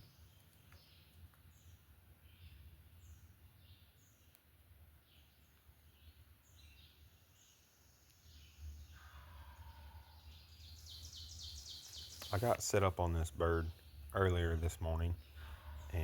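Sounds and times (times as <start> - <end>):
faint songbirds chirping: 0.0 - 16.0.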